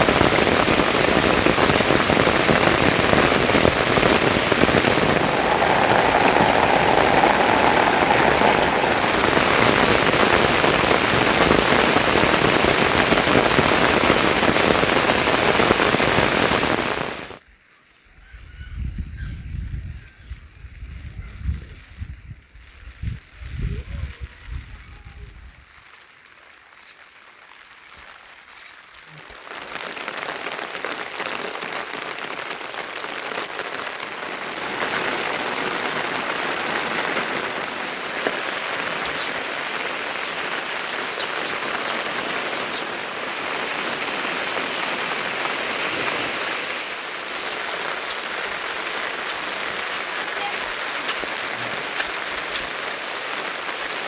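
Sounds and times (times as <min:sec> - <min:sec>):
rain falling: 0:00.0 - 0:17.4, 0:24.1 - 0:54.0.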